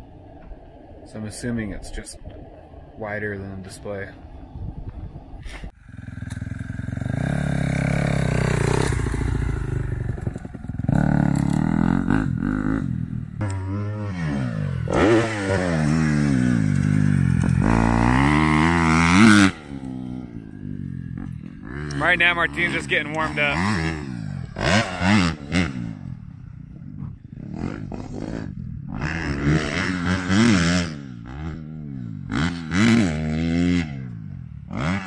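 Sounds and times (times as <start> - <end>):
motocross bike engine revving: 5.8 - 35.0.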